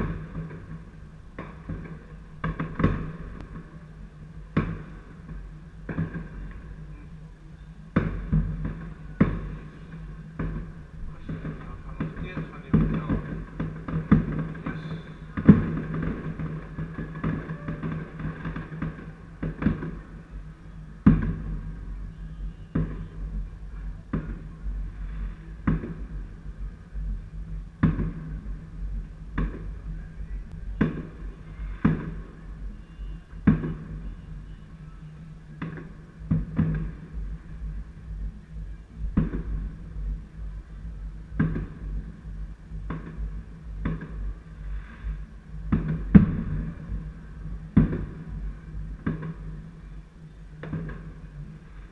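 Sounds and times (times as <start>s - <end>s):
fireworks bangs with low rumble: 0.0s - 51.9s.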